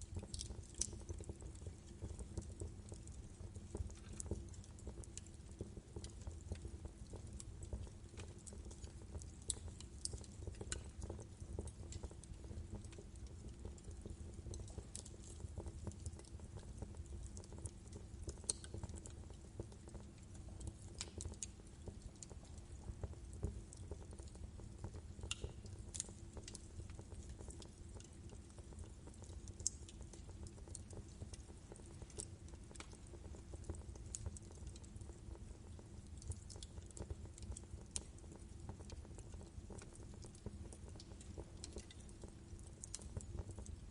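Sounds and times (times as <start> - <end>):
logs crackling and popping: 0.0 - 43.9.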